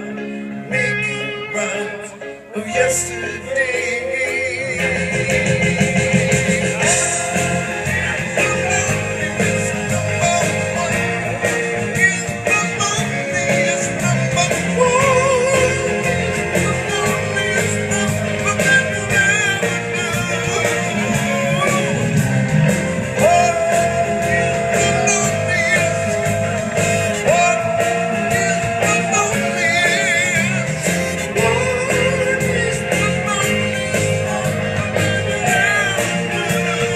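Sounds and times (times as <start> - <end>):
live rock band playing: 0.0 - 36.9
singer holding wavering notes: 6.8 - 36.9.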